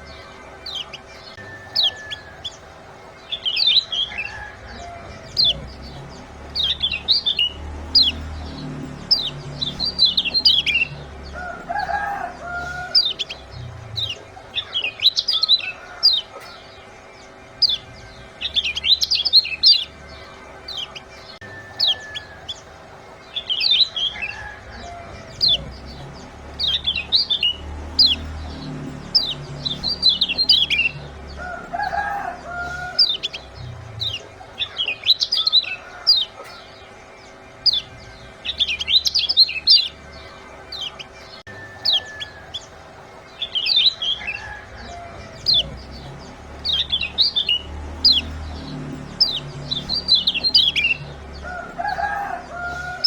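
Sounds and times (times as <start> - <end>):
bird high downward chirps: 0.0 - 53.0.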